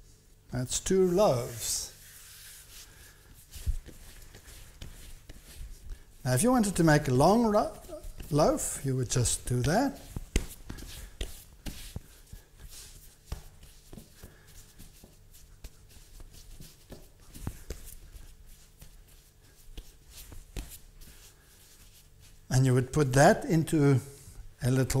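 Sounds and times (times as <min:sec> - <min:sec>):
hands patting dough on counter: 0:01.5 - 0:22.0.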